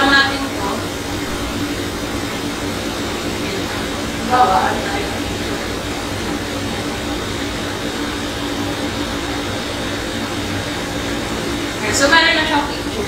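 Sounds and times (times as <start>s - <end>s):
background hum and hiss: 0.0s - 13.0s
faint constant tones: 0.0s - 13.0s.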